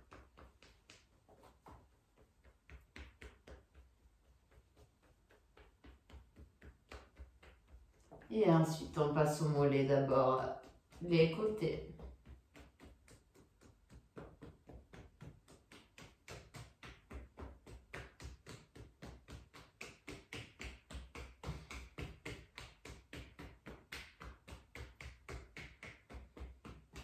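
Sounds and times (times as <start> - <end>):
fists tapping on calves: 0.0 - 27.0.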